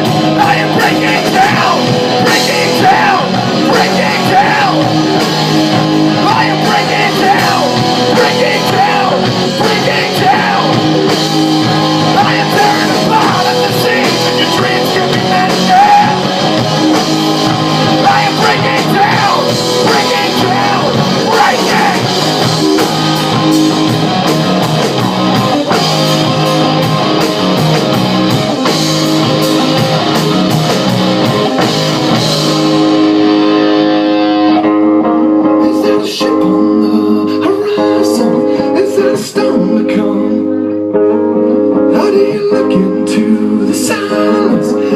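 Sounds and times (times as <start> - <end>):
loud instrumental rock music: 0.0 - 44.9.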